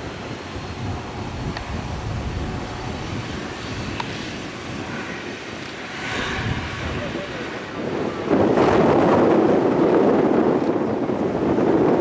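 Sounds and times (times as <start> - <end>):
jet engines rumbling at low thrust: 0.0 - 12.0.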